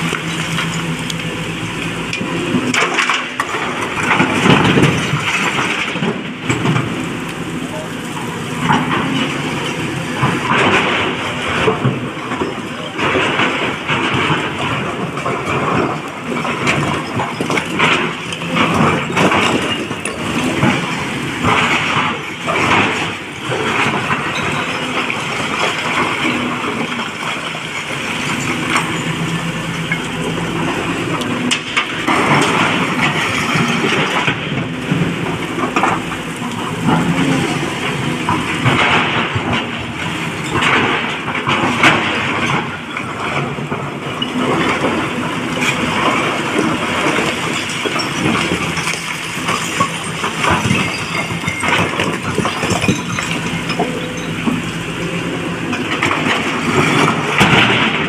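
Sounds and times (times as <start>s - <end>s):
rocks scraping and clattering: 0.0s - 7.0s, 8.6s - 58.0s
excavator diesel engine running: 0.0s - 58.0s.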